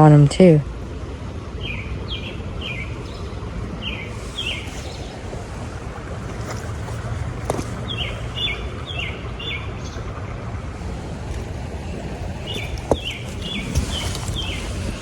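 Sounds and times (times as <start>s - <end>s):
low background rumble: 0.0s - 15.0s
songbird calling: 1.6s - 5.8s, 6.4s - 10.1s, 10.8s - 15.0s.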